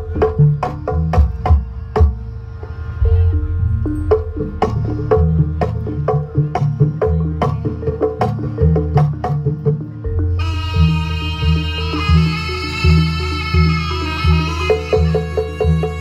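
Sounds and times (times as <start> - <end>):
repeating pitched gamelan figure: 0.0 - 9.0, 10.0 - 16.0
deep drum tones: 0.0 - 13.0
sharp percussion strikes: 0.0 - 16.0.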